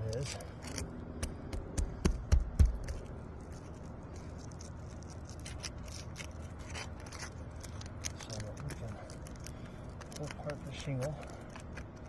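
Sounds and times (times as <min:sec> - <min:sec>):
shingle scraping and crackling: 0:00.0 - 0:12.0.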